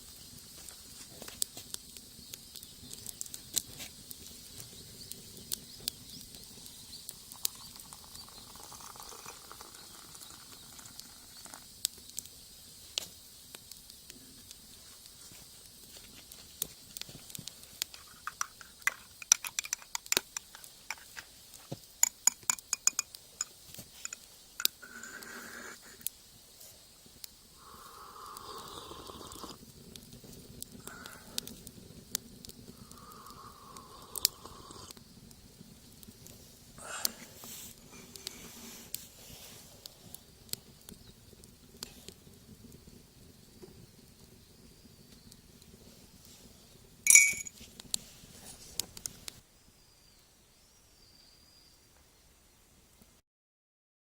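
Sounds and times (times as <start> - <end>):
wood fire crackling and popping: 0.0 - 49.4.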